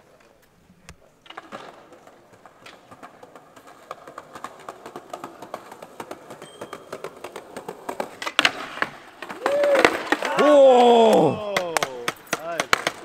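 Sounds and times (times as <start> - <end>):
skateboard wheels clacking over joints: 0.0 - 13.0.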